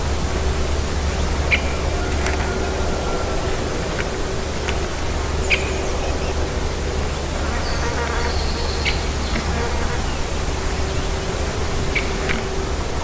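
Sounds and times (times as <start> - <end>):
faint steady buzz: 0.0 - 13.0
low hum: 0.0 - 13.0
steady outdoor hiss: 0.0 - 13.0.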